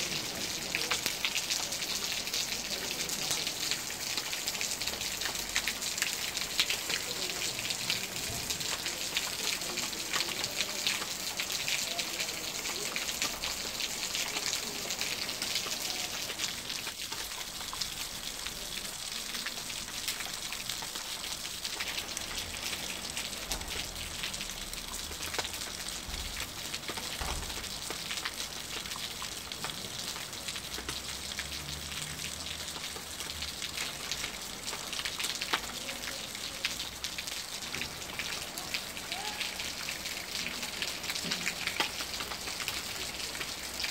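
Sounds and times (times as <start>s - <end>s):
rain on stone paving: 0.0s - 43.9s.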